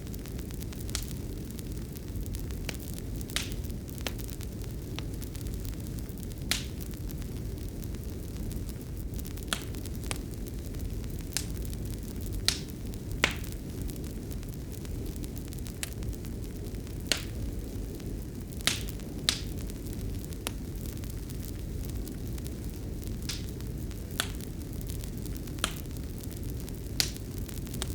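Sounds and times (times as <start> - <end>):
fire crackling and popping: 0.0 - 27.9
steady low rumble: 0.0 - 27.9.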